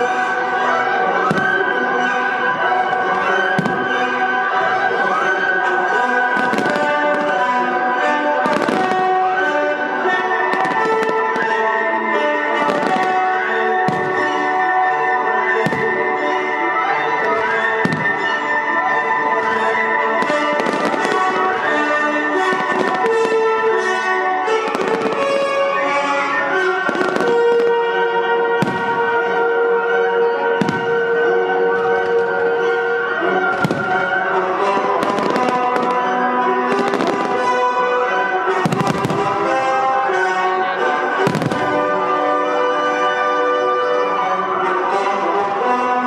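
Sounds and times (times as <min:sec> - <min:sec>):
orchestral music: 0:00.0 - 0:46.0.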